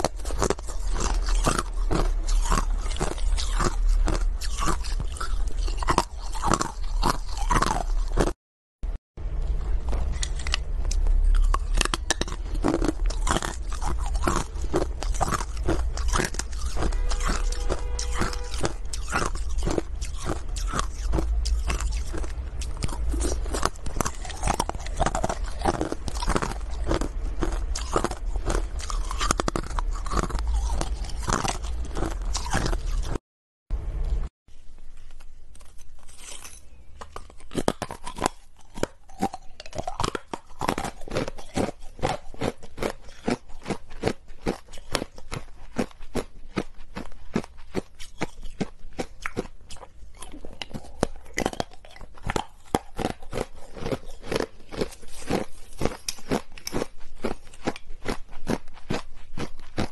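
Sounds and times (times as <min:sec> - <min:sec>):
ice being chewed crunching: 0:00.0 - 0:08.4, 0:09.4 - 0:33.2, 0:35.0 - 0:59.9.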